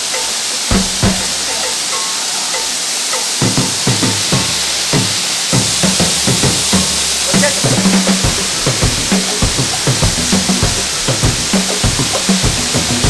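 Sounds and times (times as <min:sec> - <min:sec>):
falling water hiss: 0:00.0 - 0:13.0
funky r and b music: 0:00.0 - 0:13.0.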